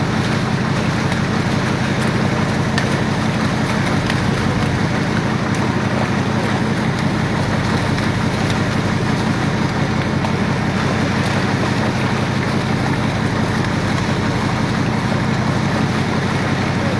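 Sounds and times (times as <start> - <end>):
boat engine running: 0.0 - 16.9
sea noise: 0.0 - 16.9.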